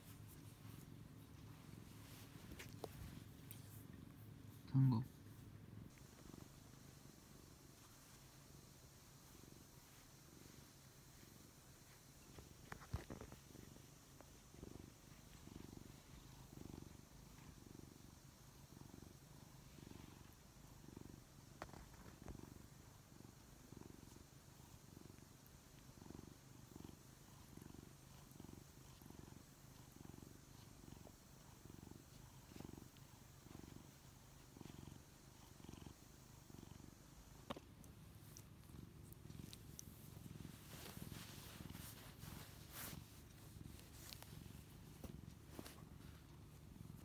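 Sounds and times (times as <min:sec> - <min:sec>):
cat purring: 0:00.0 - 0:47.0.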